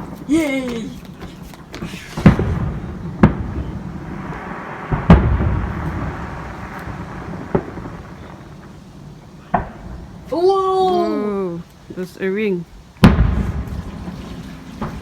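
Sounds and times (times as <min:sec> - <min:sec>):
fireworks bursting: 0:00.0 - 0:11.4, 0:13.0 - 0:15.0
fireworks crackle: 0:00.0 - 0:12.1, 0:13.0 - 0:15.0.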